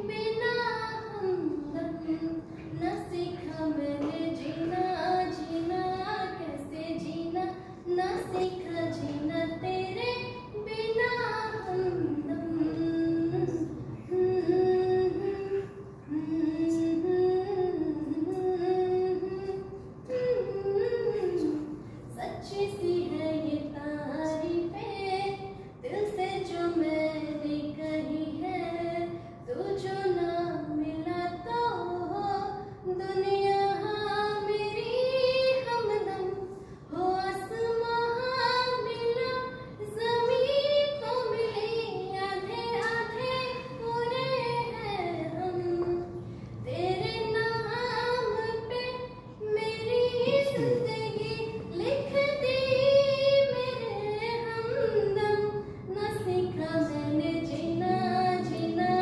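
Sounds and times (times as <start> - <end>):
woman singing unaccompanied: 0.0 - 59.0.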